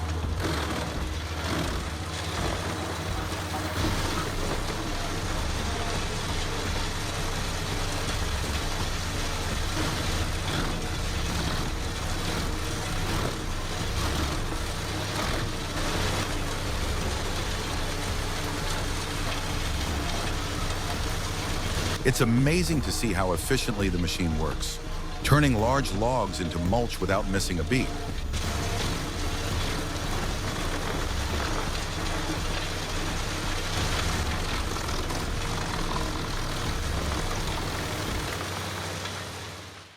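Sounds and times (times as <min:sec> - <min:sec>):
wood shredding machine engine: 0:00.0 - 0:39.9.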